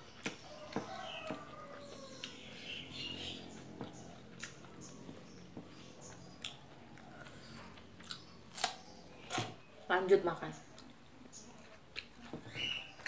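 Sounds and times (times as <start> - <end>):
person chewing: 0.0 - 2.5, 3.4 - 9.4, 10.7 - 13.0.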